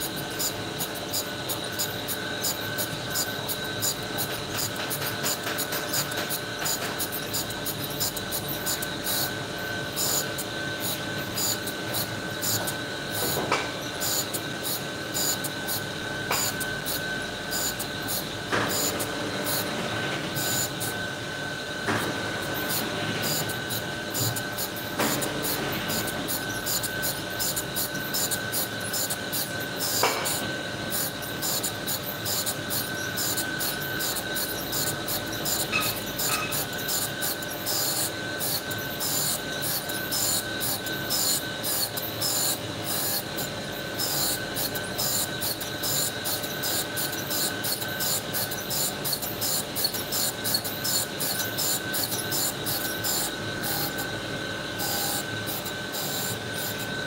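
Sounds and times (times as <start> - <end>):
grinder wheel whining: 0.0 - 57.0.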